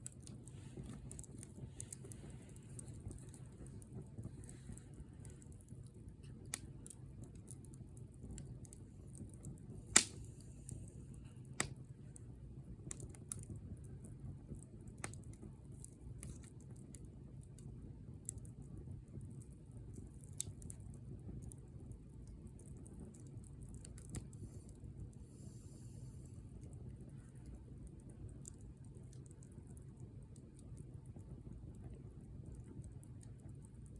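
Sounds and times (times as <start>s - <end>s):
bonfire crackling and popping: 0.0s - 33.9s
low rumble of flames: 0.0s - 33.9s.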